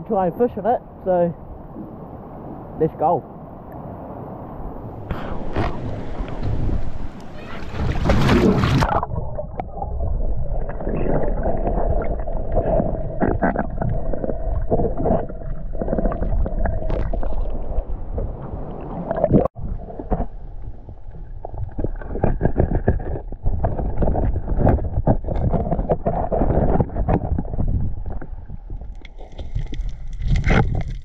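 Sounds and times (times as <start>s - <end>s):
muffled underwater water rush: 1.1s - 31.0s
bubbling water: 5.2s - 31.0s.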